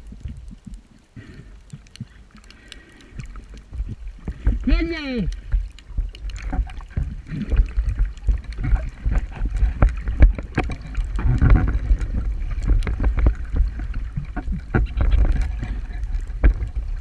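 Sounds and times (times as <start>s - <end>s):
water sloshing and gurgling: 0.0s - 17.0s
steady low rumble: 3.1s - 17.0s.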